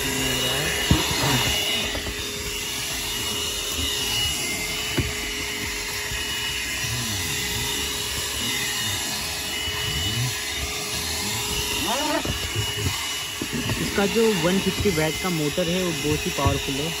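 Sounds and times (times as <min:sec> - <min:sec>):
handheld vacuum cleaner humming: 0:00.0 - 0:17.0.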